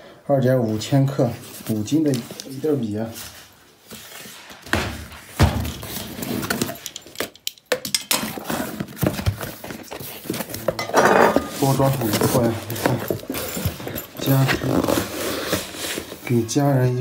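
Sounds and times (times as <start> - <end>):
cardboard and tape rustling: 0.8 - 7.4, 8.2 - 17.0.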